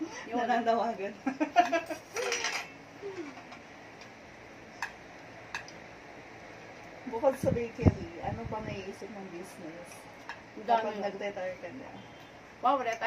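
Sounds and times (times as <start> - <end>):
faint room hiss: 0.0 - 13.0.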